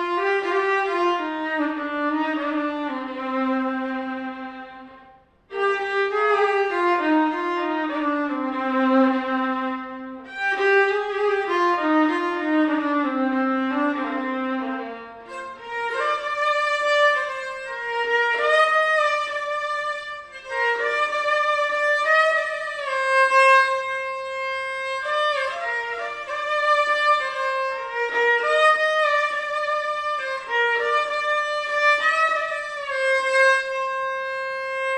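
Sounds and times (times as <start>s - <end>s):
bowed fiddle melody: 0.0s - 34.9s.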